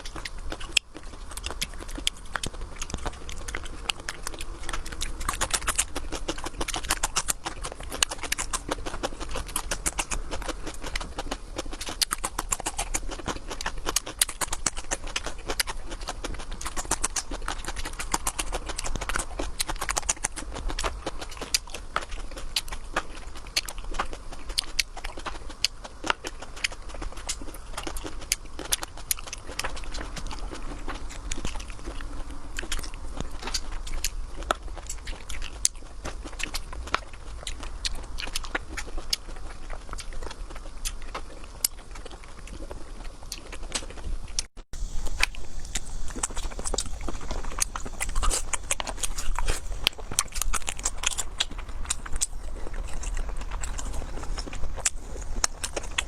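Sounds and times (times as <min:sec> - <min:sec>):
wet mouth clicks and smacks: 0:00.0 - 0:34.2, 0:43.3 - 0:56.0
biting and chewing: 0:00.0 - 0:56.0.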